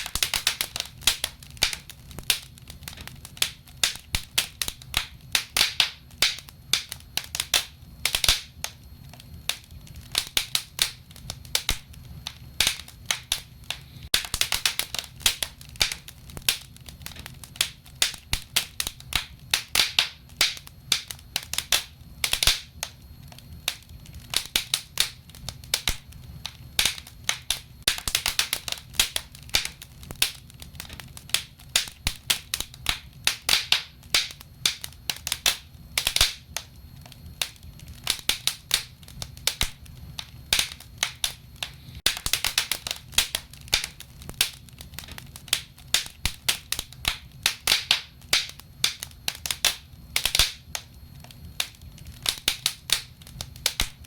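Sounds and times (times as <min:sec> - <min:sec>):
low rumble of fire: 0:00.0 - 0:54.0
wood fire crackling and popping: 0:00.0 - 0:54.0.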